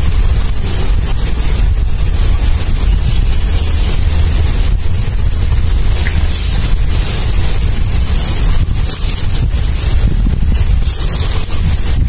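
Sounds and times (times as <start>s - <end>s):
stream running water: 0.0s - 12.0s
wind buffeting microphone: 0.0s - 12.0s.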